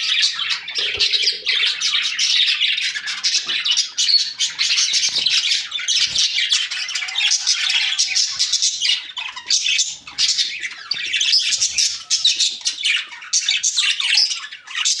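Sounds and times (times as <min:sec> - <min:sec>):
baby parrots squawking: 0:00.0 - 0:15.0.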